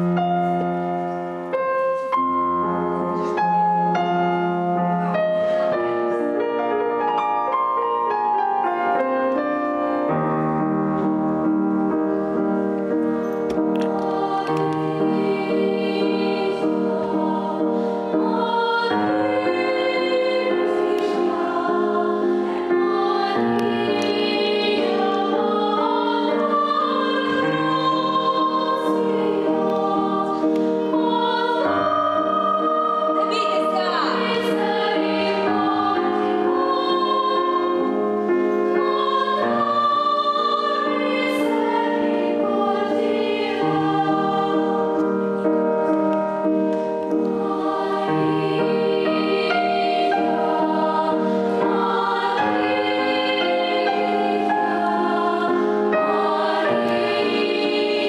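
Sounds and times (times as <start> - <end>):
girls' choir singing: 11.0 - 58.0.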